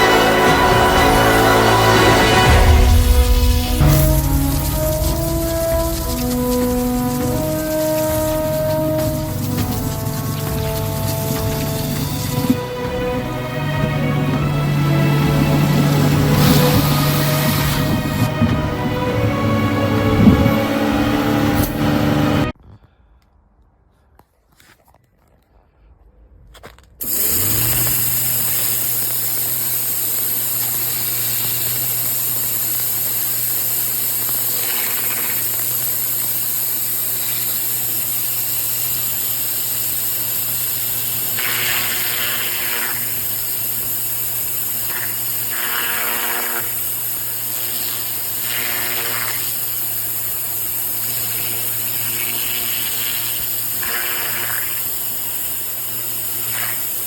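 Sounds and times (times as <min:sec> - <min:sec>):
pressure washer running: 0:00.0 - 0:22.6, 0:27.0 - 0:57.0.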